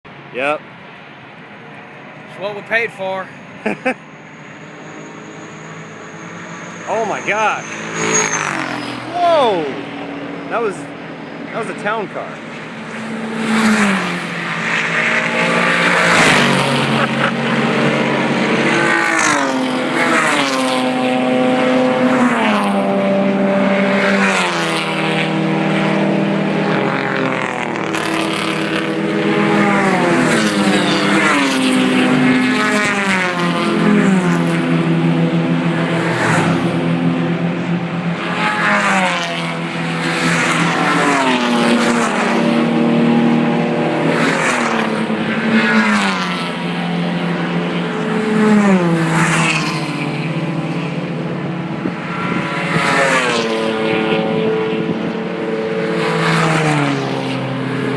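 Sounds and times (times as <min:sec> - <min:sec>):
racing car engines at full throttle: 0:00.1 - 0:57.9.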